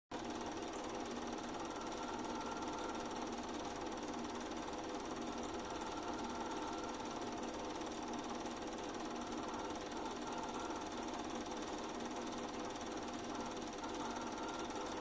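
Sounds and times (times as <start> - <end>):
film projector mechanical clatter: 0.2 - 15.0
steady hum: 0.2 - 15.0.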